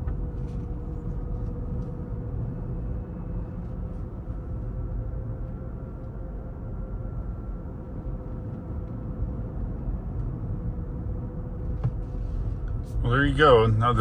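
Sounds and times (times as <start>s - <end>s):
faint steady whine: 0.0s - 14.0s
road and tyre rumble in car cabin: 0.0s - 14.0s.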